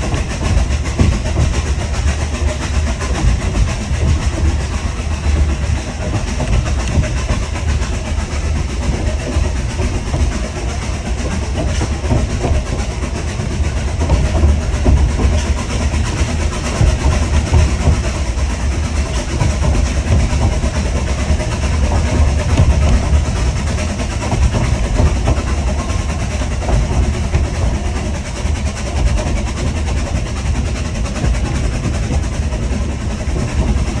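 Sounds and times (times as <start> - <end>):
steam locomotive rumble and rattle: 0.0 - 34.0.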